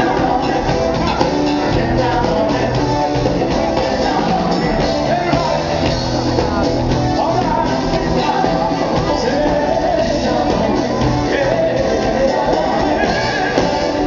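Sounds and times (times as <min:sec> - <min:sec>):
bass line: 0:00.0 - 0:14.0
drums: 0:00.0 - 0:14.0
electric guitar: 0:00.0 - 0:14.0
person singing: 0:00.0 - 0:14.0.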